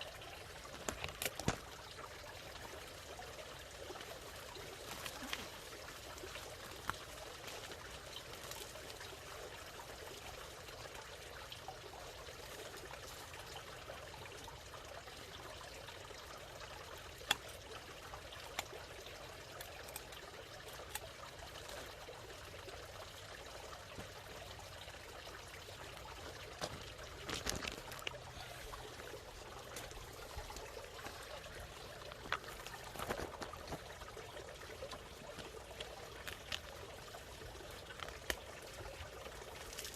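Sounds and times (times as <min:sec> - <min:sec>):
water bubbling and trickling: 0:00.0 - 0:39.9.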